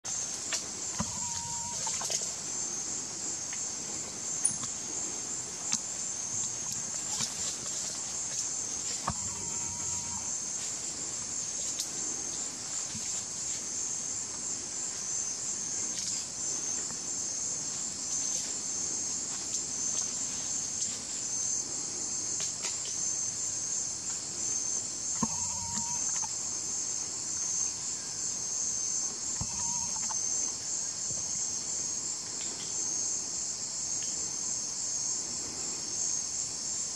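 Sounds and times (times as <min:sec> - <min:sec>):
insects chorus: 0:00.0 - 0:36.9.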